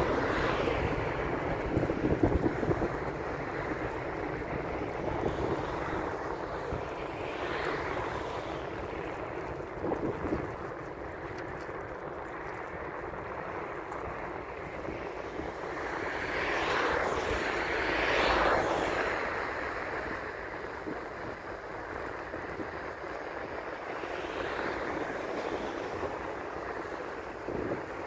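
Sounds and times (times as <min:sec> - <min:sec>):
distant jet engine roar: 0:00.0 - 0:28.0.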